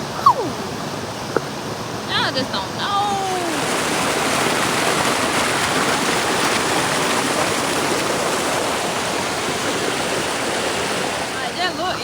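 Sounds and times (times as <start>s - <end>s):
waterfall rushing and splashing: 0.0s - 12.0s.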